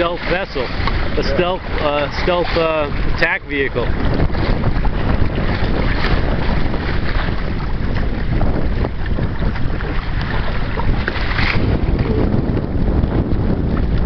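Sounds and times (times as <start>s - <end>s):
water splashing along hull: 0.0s - 14.0s
wind buffeting microphone: 0.0s - 14.0s.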